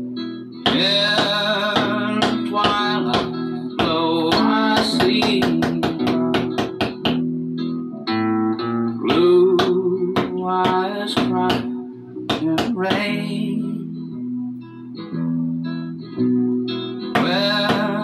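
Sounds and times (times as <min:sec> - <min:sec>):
acoustic guitar picking notes: 0:00.0 - 0:18.0.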